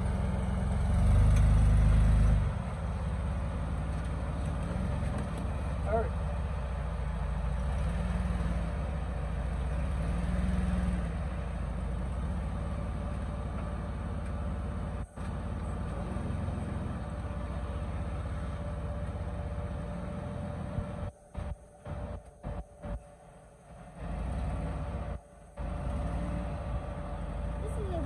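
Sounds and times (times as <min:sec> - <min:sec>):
engine running at low revs: 0:00.0 - 0:28.0.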